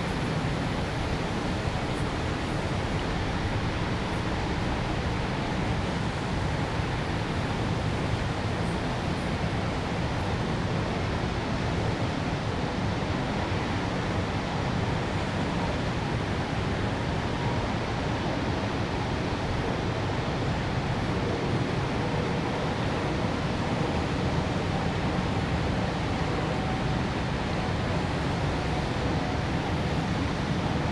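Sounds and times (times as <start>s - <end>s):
city ambience: 0.0s - 30.9s.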